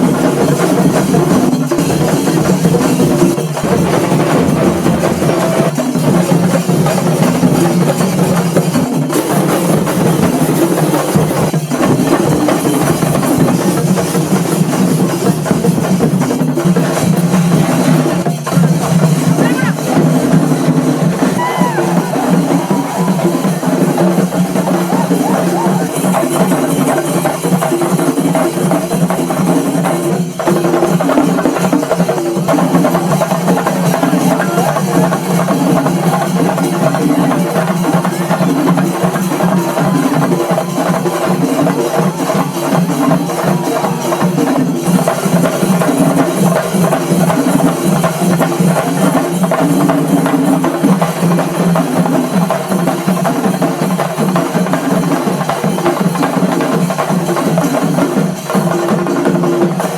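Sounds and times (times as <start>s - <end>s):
music with drums and percussion: 0.0s - 59.9s.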